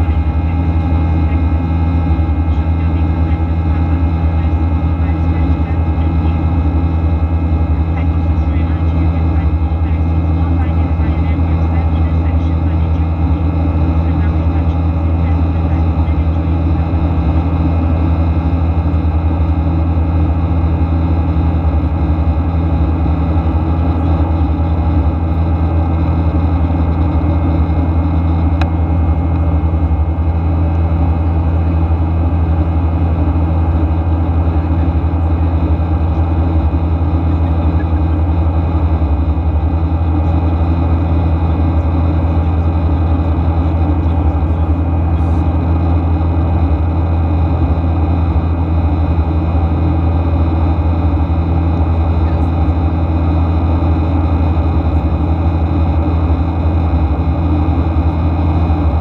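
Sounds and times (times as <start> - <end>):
deep steady hum: 0.0 - 59.0
jet engine drone: 0.0 - 59.0.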